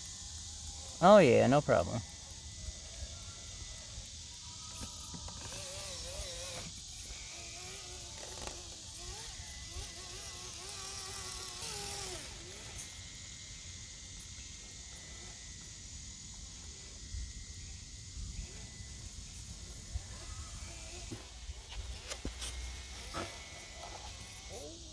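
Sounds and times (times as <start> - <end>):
small electric motor whining: 0.0 - 1.0, 1.6 - 24.9.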